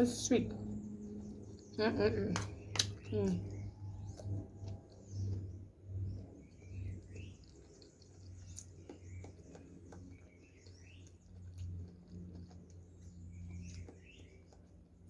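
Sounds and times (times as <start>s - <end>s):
low steady hum: 0.0s - 15.0s
small birds chirping: 0.0s - 15.0s
soft chewing: 0.0s - 15.0s.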